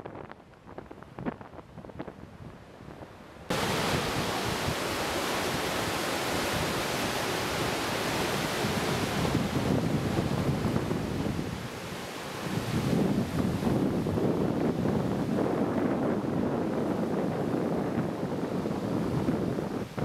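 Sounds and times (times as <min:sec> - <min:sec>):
wind buffeting microphone: 0:00.0 - 0:20.0
ocean surf breaking: 0:03.5 - 0:20.0.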